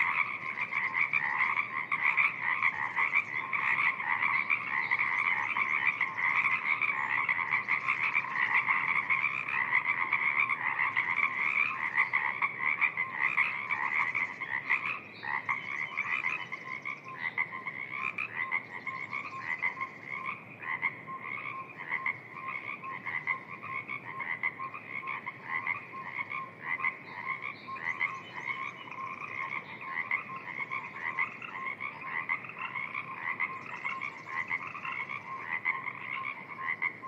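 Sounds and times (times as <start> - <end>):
frogs croaking: 0.0 - 37.0.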